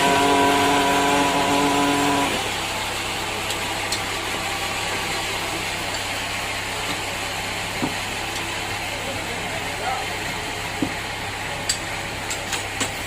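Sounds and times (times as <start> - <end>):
pitched whine: 0.0 - 11.8
sawmill machinery running: 0.0 - 13.0.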